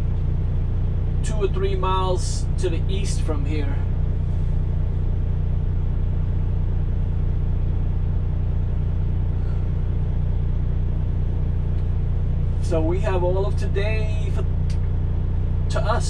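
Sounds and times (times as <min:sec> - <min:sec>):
diesel truck engine rumbling: 0:00.0 - 0:16.0.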